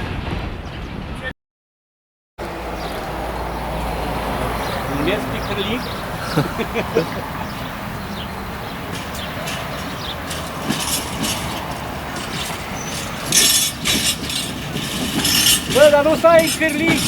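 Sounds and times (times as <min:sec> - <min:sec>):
train rumbling on rails: 0:02.4 - 0:17.0.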